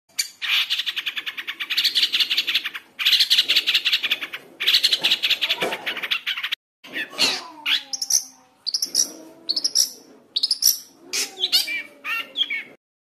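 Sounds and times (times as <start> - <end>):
bird chattering song: 0.1 - 12.8.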